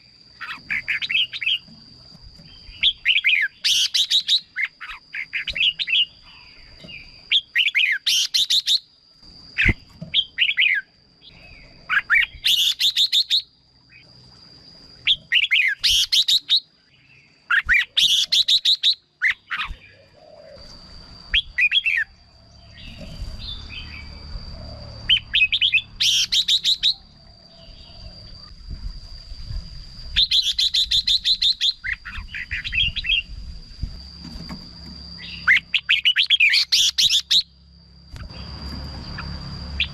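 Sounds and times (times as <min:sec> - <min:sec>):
thin high whine: 0:00.0 - 0:39.9.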